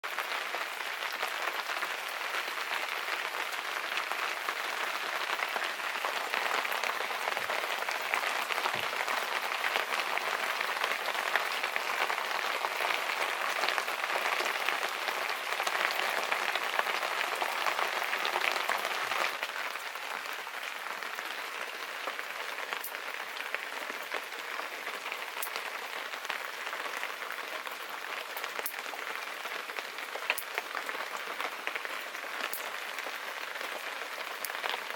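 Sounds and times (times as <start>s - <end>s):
patters of raindrops: 0.0s - 34.9s.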